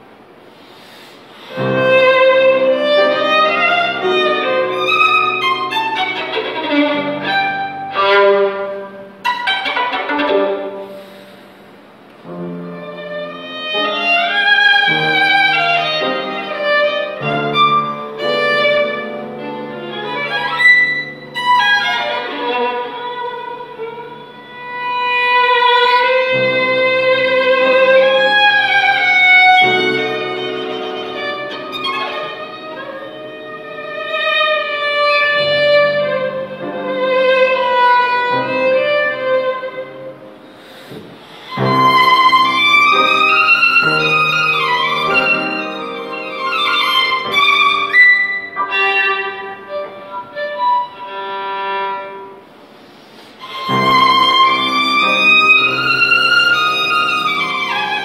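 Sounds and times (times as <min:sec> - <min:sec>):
solo violin melody: 0:01.3 - 0:58.0.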